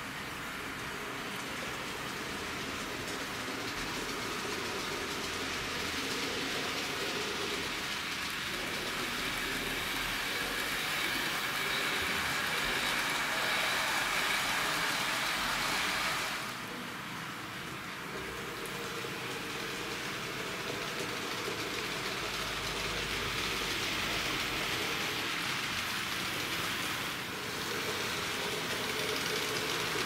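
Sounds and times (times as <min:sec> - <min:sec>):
model train wheels rattling: 0:00.8 - 0:16.5, 0:18.0 - 0:30.0.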